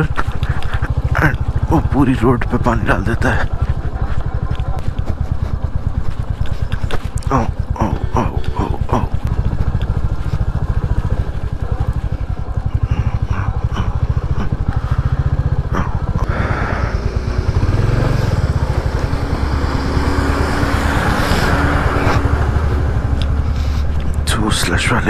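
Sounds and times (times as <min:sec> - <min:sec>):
truck engine hum: 0:00.0 - 0:25.0.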